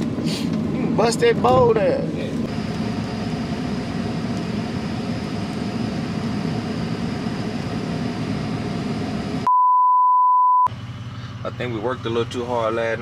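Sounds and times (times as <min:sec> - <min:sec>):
road and engine rumble: 0:00.0 - 0:09.5, 0:10.7 - 0:13.0.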